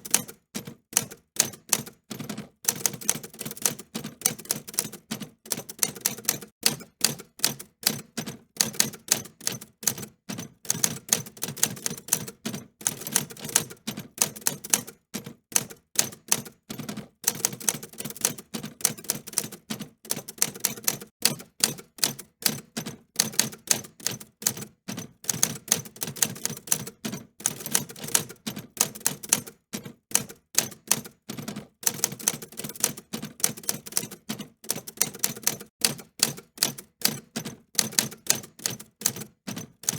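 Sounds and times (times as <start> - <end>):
typewriter keys clicking: 0.0 - 0.4, 1.0 - 10.1, 10.7 - 15.0, 15.6 - 39.9.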